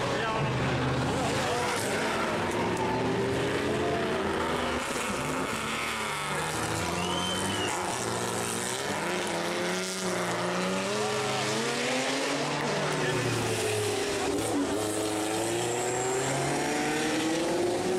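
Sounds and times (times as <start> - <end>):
racing car engines braking and accelerating: 0.0 - 17.9.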